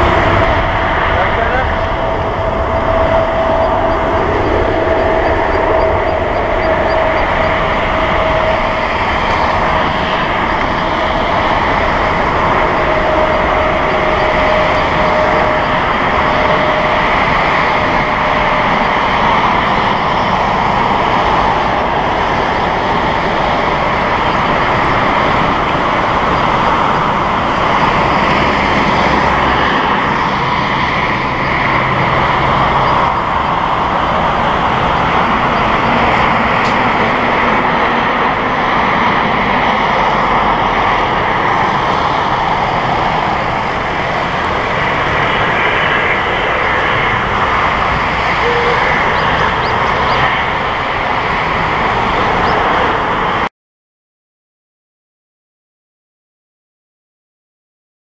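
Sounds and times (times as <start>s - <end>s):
jet engine roar: 0.0s - 53.5s
jet engine whine: 0.0s - 53.5s.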